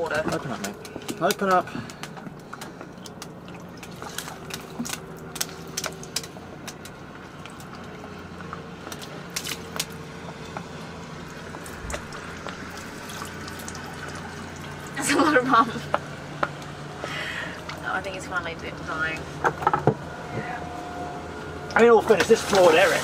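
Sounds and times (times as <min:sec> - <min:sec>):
liquid trickling and gurgling: 0:00.0 - 0:18.9
steady low hum: 0:00.0 - 0:23.0.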